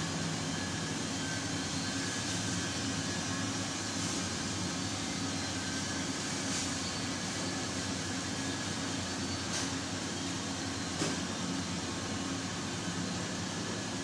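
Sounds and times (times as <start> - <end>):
ventilation system hum: 0.0 - 14.0.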